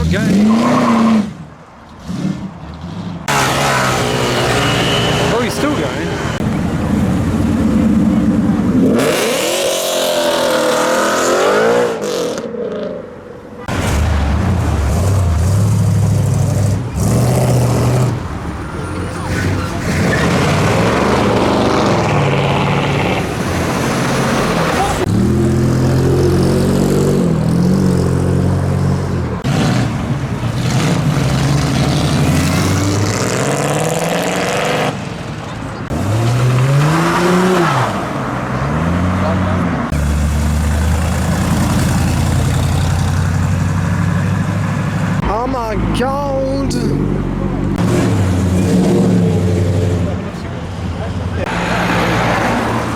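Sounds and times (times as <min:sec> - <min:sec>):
car engine revving: 0:02.0 - 0:18.4, 0:19.3 - 0:45.9.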